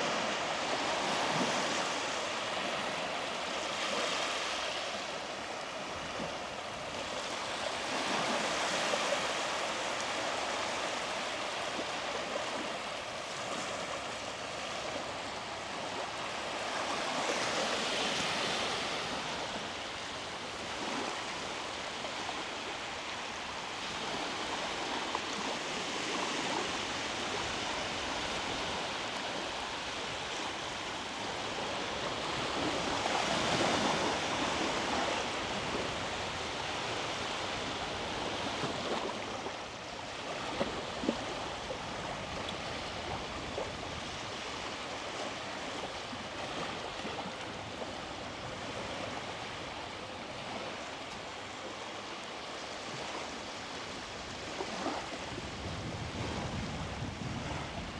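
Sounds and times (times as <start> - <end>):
waves breaking on beach: 0.0 - 57.9.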